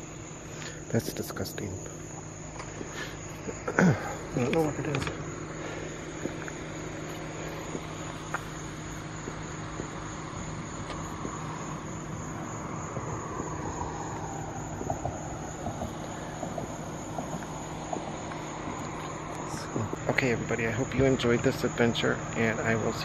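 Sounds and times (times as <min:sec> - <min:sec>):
crickets trilling: 0:00.0 - 0:23.0
distant vehicle passing: 0:00.0 - 0:23.0.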